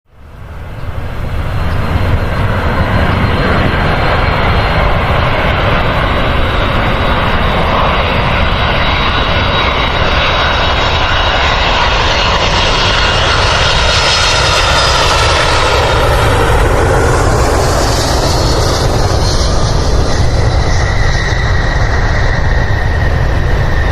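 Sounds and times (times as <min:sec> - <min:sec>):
airliner engines roaring: 0:00.1 - 0:23.9.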